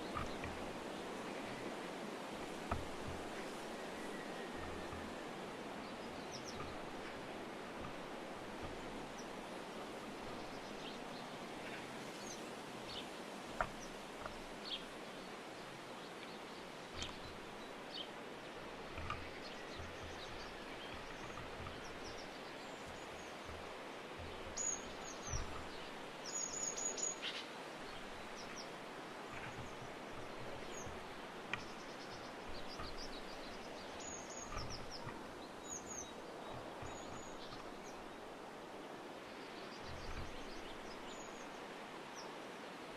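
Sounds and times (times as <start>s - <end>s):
small birds chirping: 0.0s - 42.4s
background hiss: 0.0s - 42.9s.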